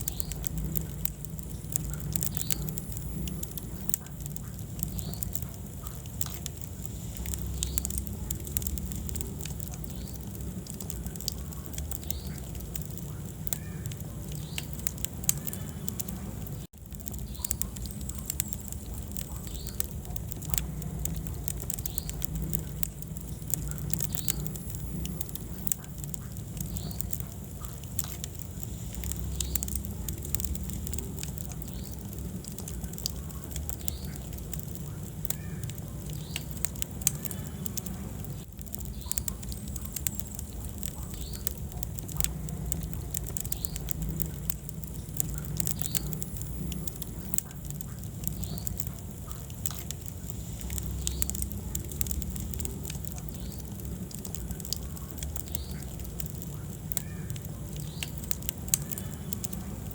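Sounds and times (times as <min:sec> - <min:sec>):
fire crackles and pops: 0:00.0 - 0:59.9
fire rumbling: 0:00.0 - 0:59.9.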